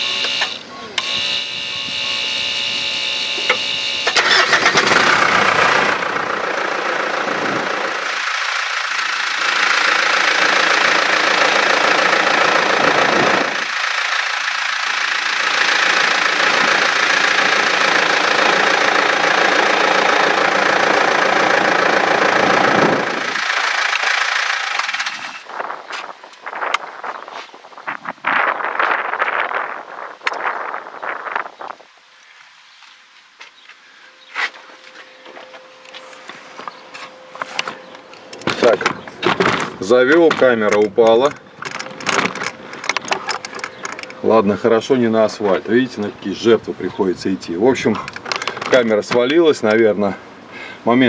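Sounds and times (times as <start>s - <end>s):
diesel engine starting and running: 0.0s - 26.9s, 34.2s - 51.0s.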